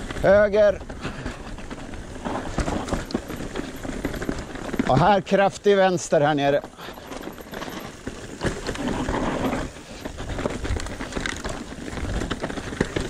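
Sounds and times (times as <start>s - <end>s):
bike rattling: 0.0s - 13.0s
bike tyres crunching over stones: 0.0s - 13.0s.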